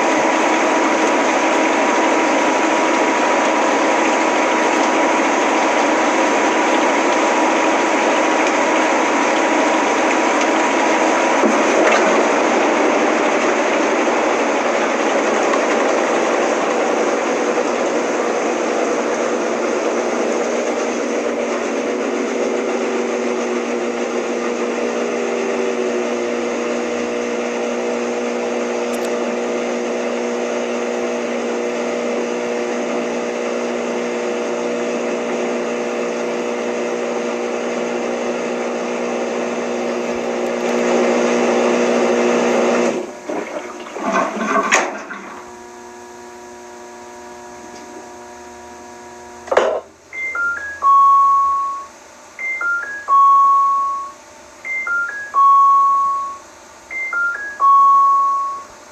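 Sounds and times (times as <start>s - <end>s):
washing machine running: 0.0s - 58.9s.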